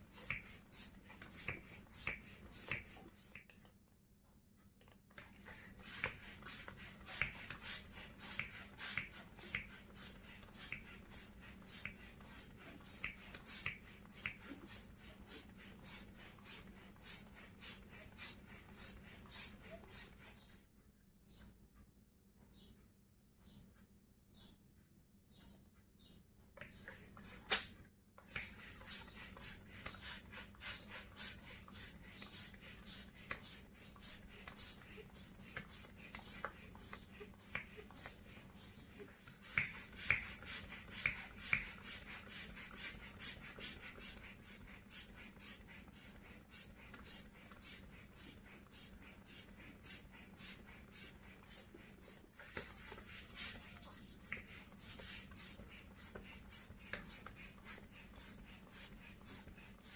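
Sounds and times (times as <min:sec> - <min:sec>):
balloon rubbing: 0:05.4 - 0:20.6, 0:26.7 - 0:59.9.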